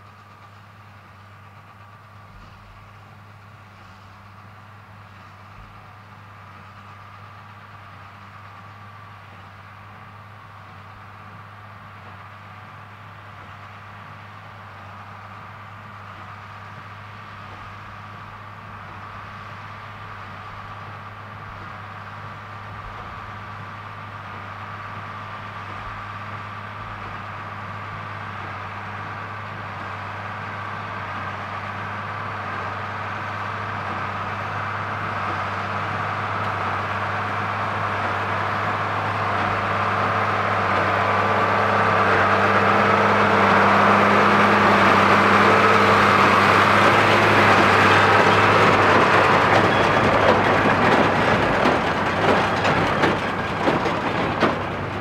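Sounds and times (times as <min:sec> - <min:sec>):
tractor diesel engine under load: 0:00.0 - 0:55.0
baler machinery noise: 0:00.1 - 0:55.0.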